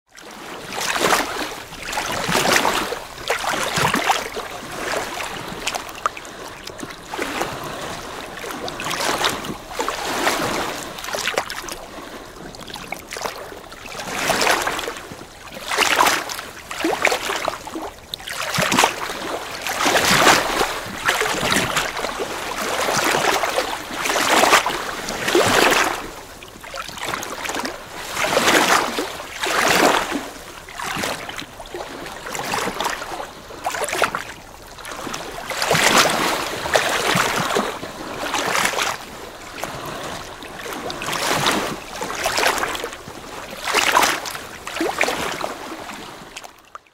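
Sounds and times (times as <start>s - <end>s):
small waves lapping on shore: 0.1s - 46.9s.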